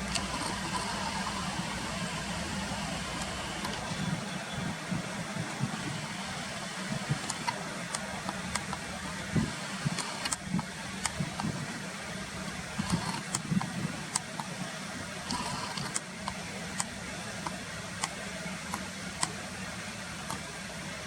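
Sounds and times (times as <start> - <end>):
background hiss: 0.0 - 21.0
traffic hum: 0.0 - 21.0.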